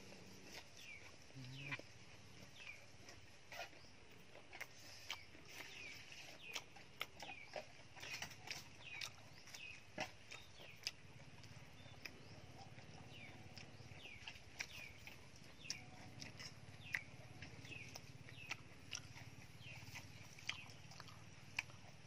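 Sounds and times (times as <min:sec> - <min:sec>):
man chewing with lip-smacking: 0:00.0 - 0:22.0.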